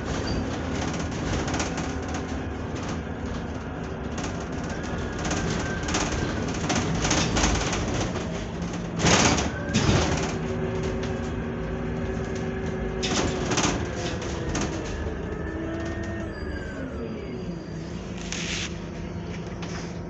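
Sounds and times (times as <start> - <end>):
bus engine humming: 0.0 - 20.0.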